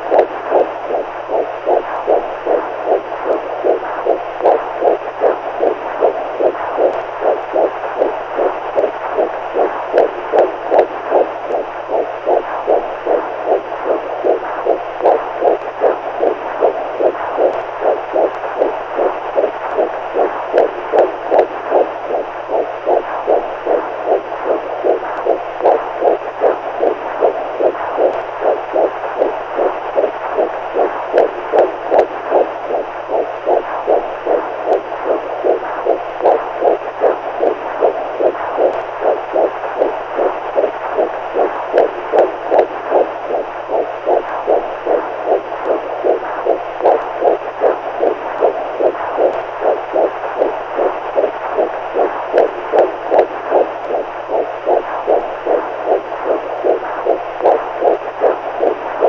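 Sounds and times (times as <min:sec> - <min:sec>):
heartbeat: 0:00.0 - 0:59.0.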